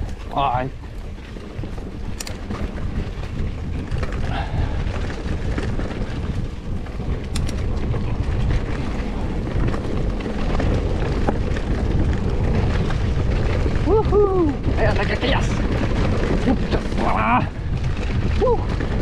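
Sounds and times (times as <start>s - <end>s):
bike rattling over bumps: 0.0s - 19.0s
bike tyres rumbling on dirt: 0.0s - 19.0s.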